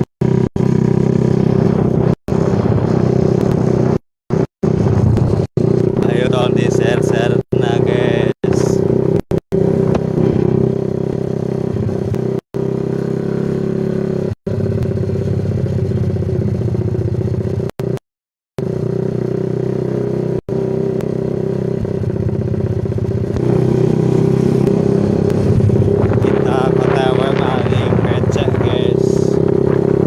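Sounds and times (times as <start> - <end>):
motorcycle engine running: 0.0 - 18.0, 18.6 - 30.0.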